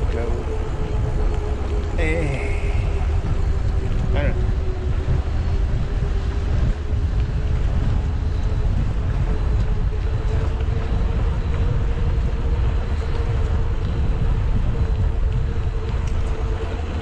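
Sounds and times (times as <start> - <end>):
steady hum: 0.0 - 17.0
wind buffeting microphone: 0.0 - 17.0.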